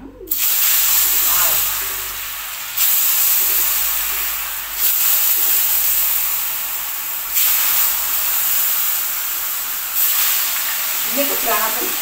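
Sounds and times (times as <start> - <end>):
food sizzling in hot oil: 0.3 - 12.0.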